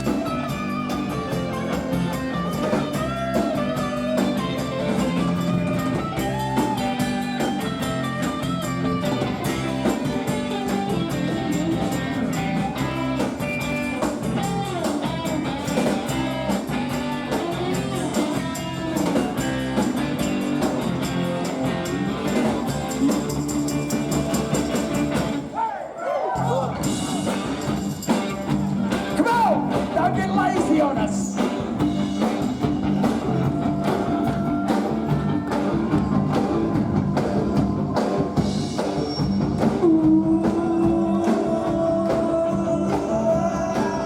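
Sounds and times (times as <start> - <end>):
electric guitar lead line: 0.0 - 25.5, 26.7 - 44.0
live rock band playing: 0.0 - 25.5, 26.6 - 44.0.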